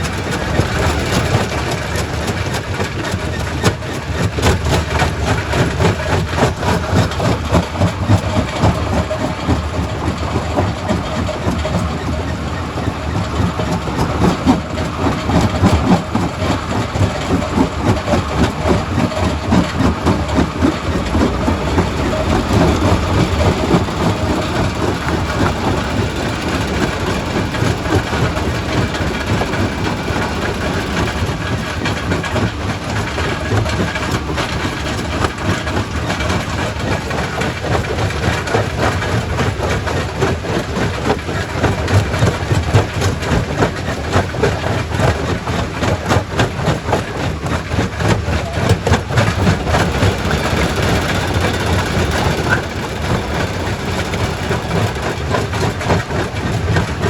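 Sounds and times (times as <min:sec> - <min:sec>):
rock crusher rumbling: 0:00.0 - 0:57.0.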